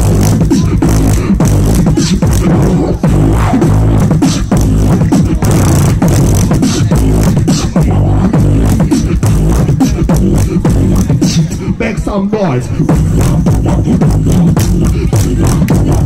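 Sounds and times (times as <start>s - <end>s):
beatboxing mouth clicks and snares: 0.0s - 16.0s
deep vocal bass line: 0.0s - 16.0s.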